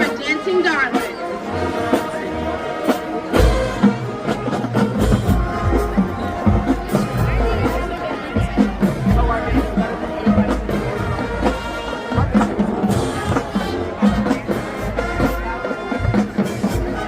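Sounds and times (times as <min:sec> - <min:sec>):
marching band brass: 0:00.0 - 0:17.0.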